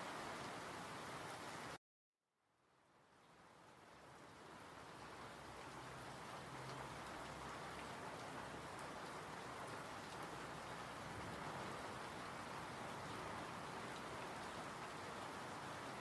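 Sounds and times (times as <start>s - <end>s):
steady rain falling: 0.0s - 1.8s, 2.8s - 16.0s.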